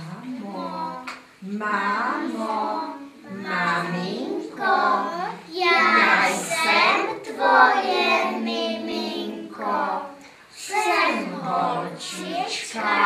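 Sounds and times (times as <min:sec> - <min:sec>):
young children singing: 0:00.5 - 0:13.0.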